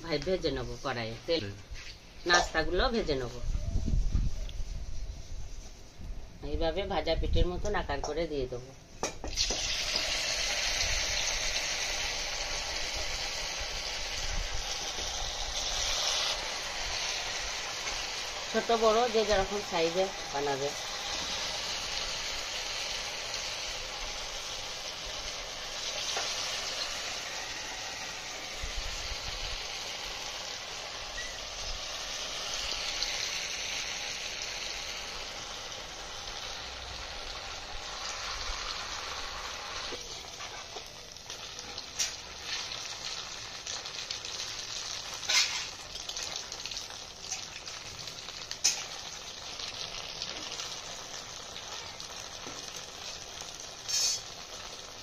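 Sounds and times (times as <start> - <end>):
fritters sizzling in oil: 0.0 - 55.0.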